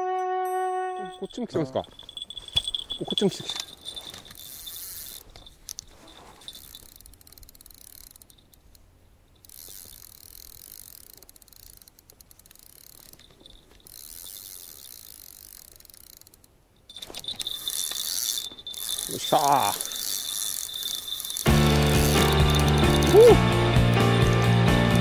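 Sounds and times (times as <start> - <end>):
fishing reel gears ticking: 1.1 - 24.1.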